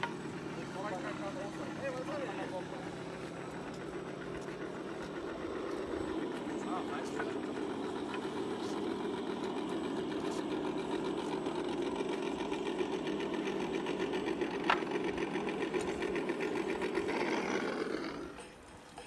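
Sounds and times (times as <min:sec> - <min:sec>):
electric motor and gearbox whirring: 0:00.0 - 0:19.0.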